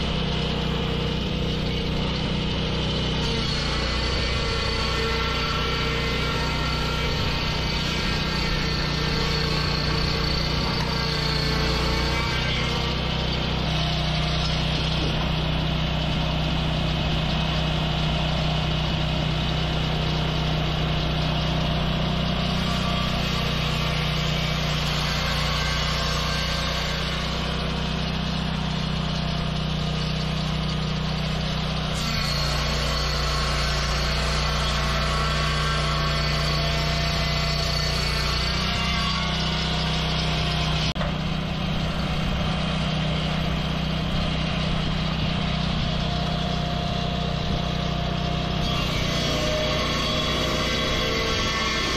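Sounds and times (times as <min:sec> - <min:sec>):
circular saw blade cutting log: 0:00.0 - 0:51.9.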